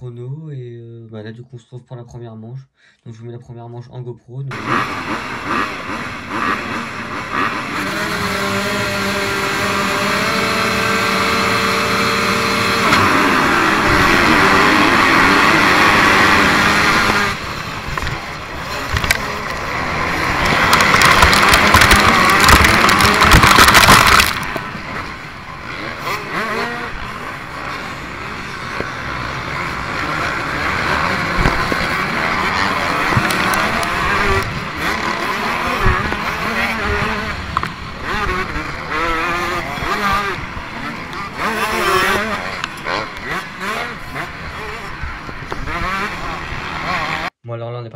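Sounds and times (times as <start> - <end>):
dirt bike engines racing: 4.5 - 47.3.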